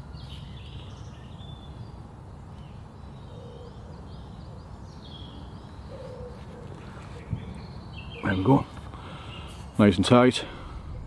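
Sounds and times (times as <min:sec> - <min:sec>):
birds chirping and singing: 0:00.0 - 0:11.0.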